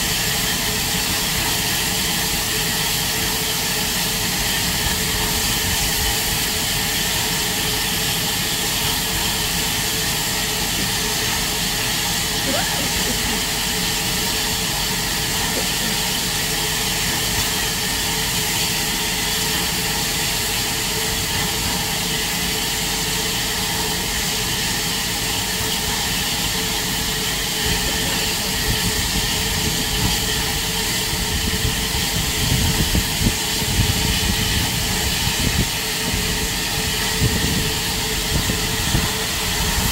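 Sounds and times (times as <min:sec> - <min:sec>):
locomotive steam hissing: 0:00.0 - 0:39.9.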